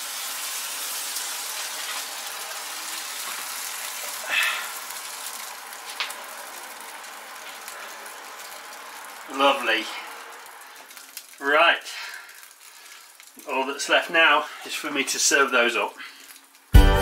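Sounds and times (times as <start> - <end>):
kebabs sizzling in hot fat: 0.0 - 17.0.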